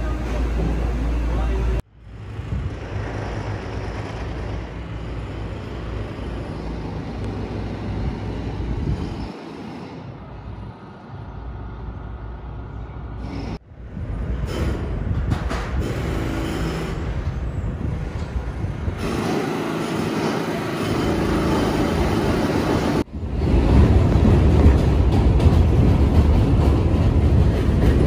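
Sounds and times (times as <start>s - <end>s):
train wheels rumbling on rail: 0.0s - 10.3s, 11.6s - 28.0s.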